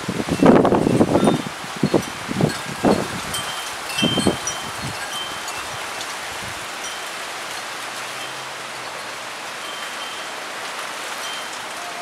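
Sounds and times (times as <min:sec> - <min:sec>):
wind-driven rain hissing: 0:00.0 - 0:12.0.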